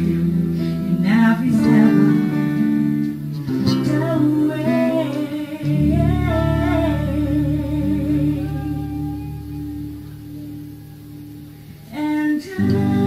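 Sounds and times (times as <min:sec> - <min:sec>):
woman singing: 0:00.0 - 0:10.9, 0:11.8 - 0:13.0
bass guitar: 0:00.0 - 0:11.9
acoustic guitar: 0:00.0 - 0:13.0.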